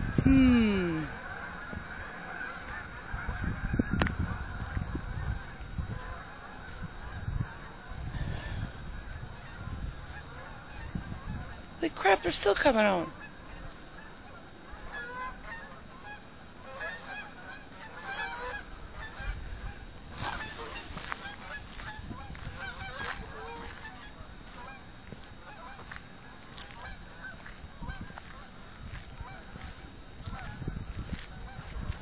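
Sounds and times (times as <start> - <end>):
geese honking: 1.0 - 32.0.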